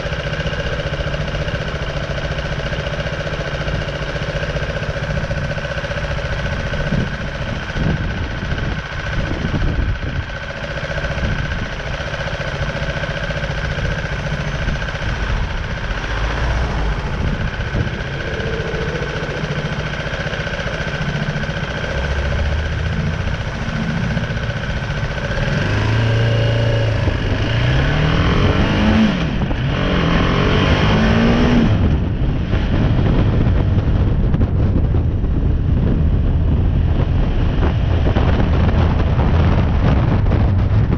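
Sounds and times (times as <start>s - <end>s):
motorcycle engine accelerating: 0.0s - 40.9s
wind noise on microphone: 4.8s - 40.9s.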